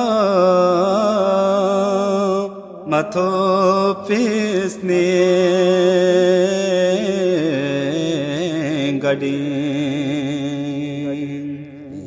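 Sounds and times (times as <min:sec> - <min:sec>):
man singing devotional chant: 0:00.0 - 0:12.0.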